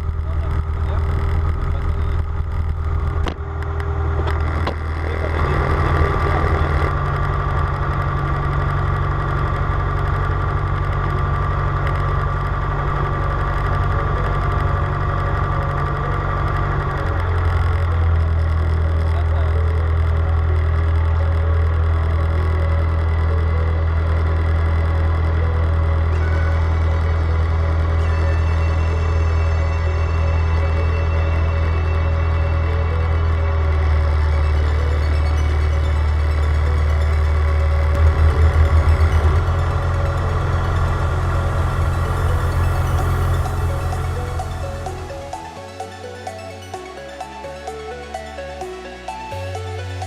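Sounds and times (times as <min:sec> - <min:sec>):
aircraft engines running: 0:00.0 - 0:50.0.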